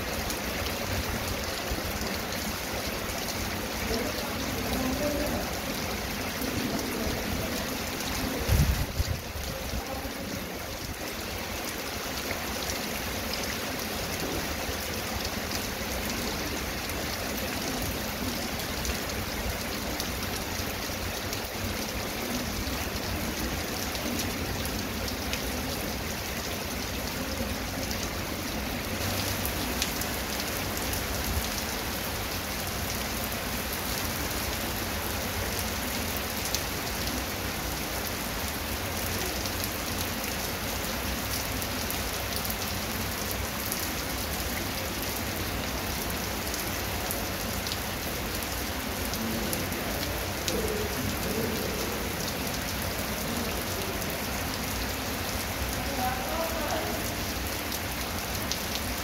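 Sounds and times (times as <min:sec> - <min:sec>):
heavy rain on concrete: 0:00.0 - 0:59.0.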